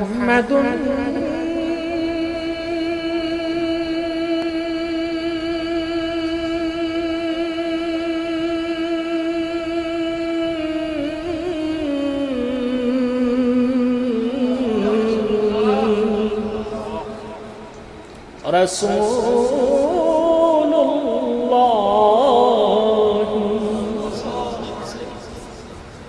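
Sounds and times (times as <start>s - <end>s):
man chanting a long note: 0.0s - 17.7s, 18.5s - 25.8s.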